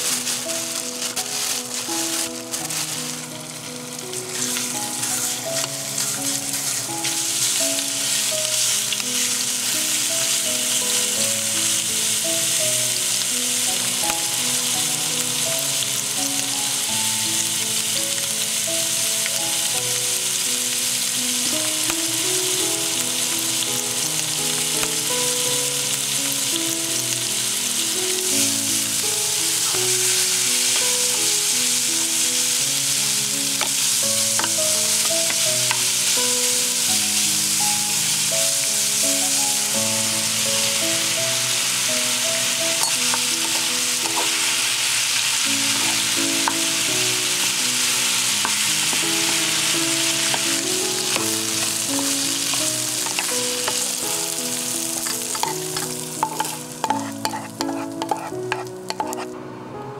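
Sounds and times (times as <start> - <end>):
meat sizzling in a frying pan: 0.0 - 59.3
gentle background music: 0.0 - 59.9.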